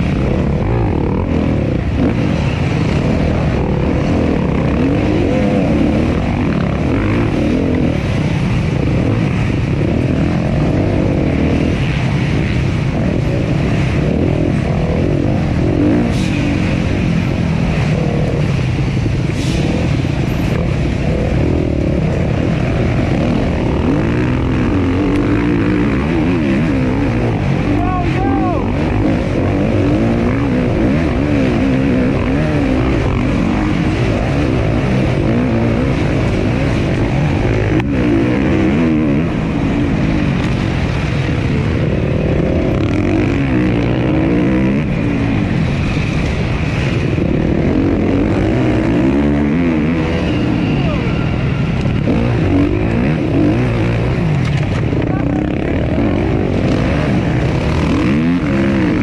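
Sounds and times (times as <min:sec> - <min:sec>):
dirt bike engine revving: 0:00.0 - 0:59.0
steady rushing noise: 0:00.0 - 0:59.0.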